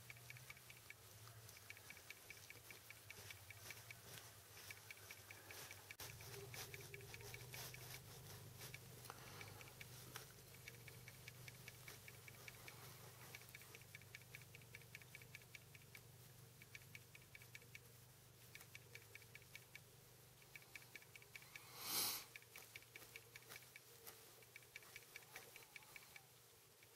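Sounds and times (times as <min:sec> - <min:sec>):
faint low hum: 0:00.0 - 0:26.9
quick faint ticking: 0:00.0 - 0:26.9.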